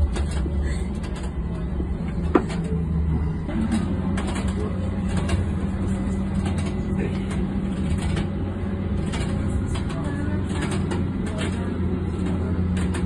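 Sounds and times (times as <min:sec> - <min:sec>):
tram rumble and motor hum: 0:00.0 - 0:13.0.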